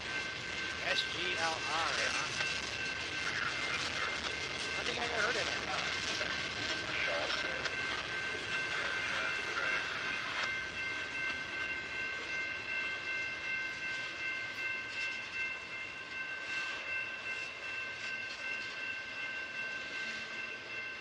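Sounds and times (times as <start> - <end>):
freight train cars rolling past: 0.0 - 21.0
steady high whine: 0.0 - 21.0.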